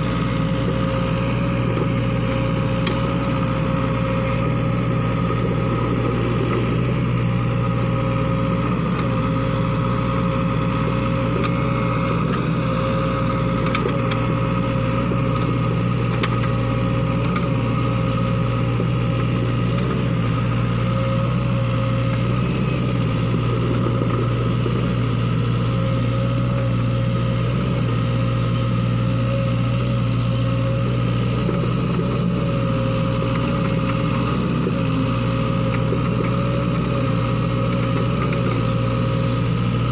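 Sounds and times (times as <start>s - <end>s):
constant high whine: 0.0s - 39.9s
excavator diesel engine running: 0.0s - 39.9s.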